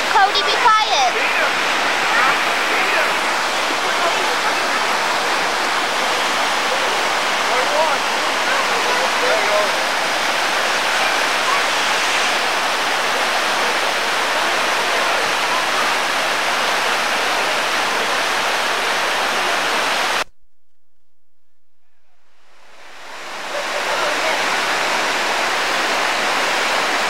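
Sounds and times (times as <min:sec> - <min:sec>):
river rapids rushing: 0:00.0 - 0:20.2, 0:22.8 - 0:27.0.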